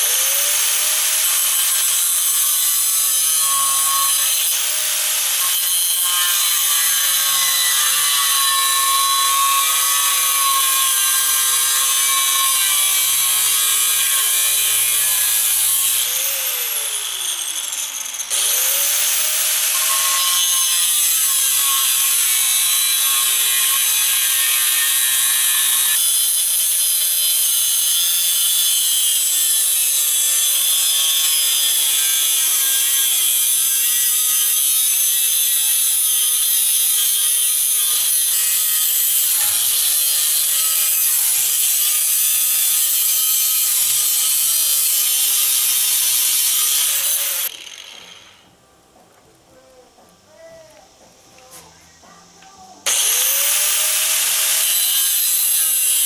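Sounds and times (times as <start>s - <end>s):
angle grinder cutting steel: 0.0s - 48.5s, 52.8s - 56.0s.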